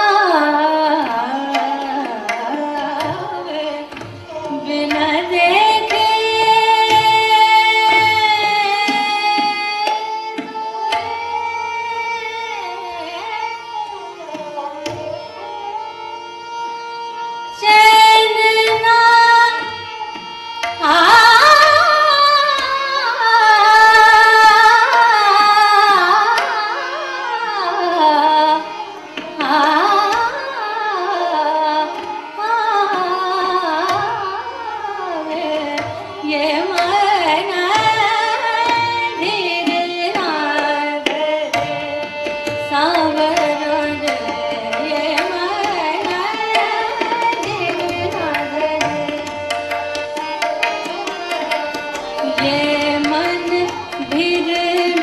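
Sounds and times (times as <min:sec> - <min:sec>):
woman singing classical song: 0:00.0 - 0:11.0, 0:17.5 - 0:55.0
harmonium: 0:00.0 - 0:55.0
tabla drumming: 0:00.0 - 0:55.0
tanpura drone: 0:00.0 - 0:55.0.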